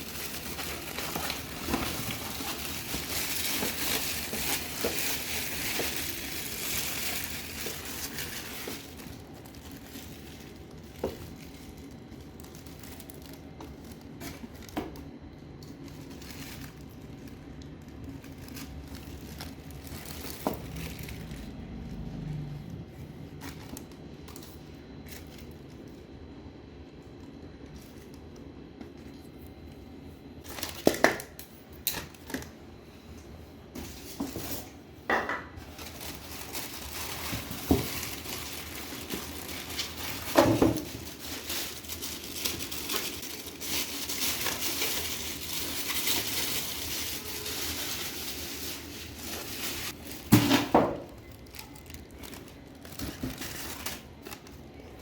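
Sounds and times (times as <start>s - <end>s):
plastic wrapping crinkling: 0.0s - 29.7s, 30.3s - 32.6s, 35.5s - 55.0s.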